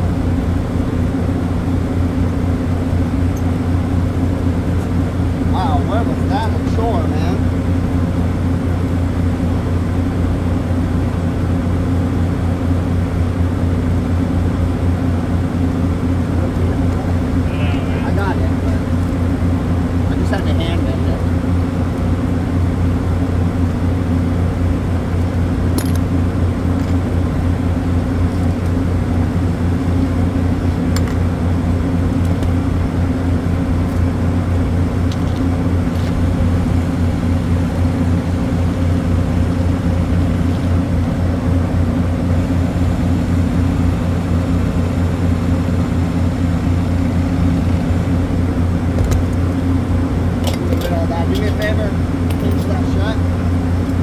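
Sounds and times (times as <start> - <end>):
compressor humming: 0.0 - 54.0.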